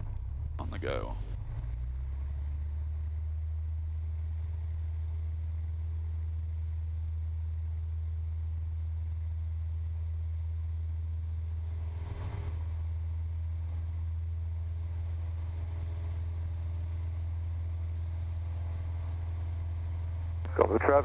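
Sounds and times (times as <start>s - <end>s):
light aircraft engine drone: 0.0s - 21.0s.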